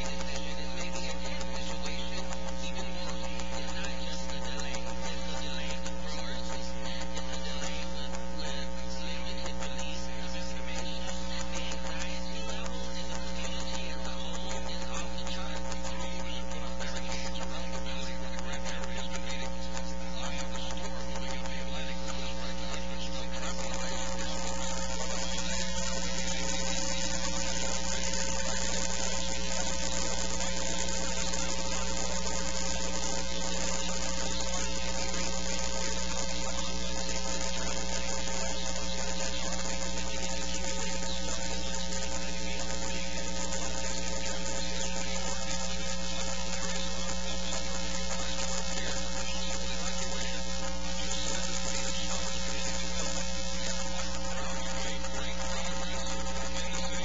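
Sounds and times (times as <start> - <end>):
electrical hum and buzz: 0.0 - 57.0.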